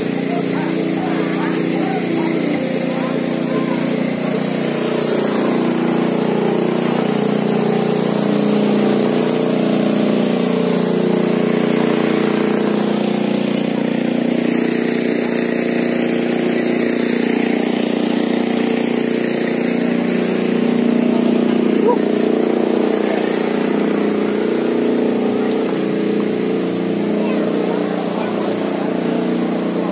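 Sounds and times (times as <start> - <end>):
generator engine running: 0.0 - 29.9.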